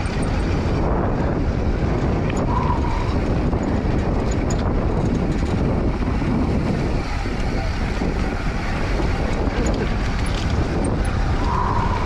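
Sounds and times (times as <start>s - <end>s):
bike tyres rolling on dirt: 0.0s - 12.0s
wind buffeting microphone: 0.0s - 12.0s.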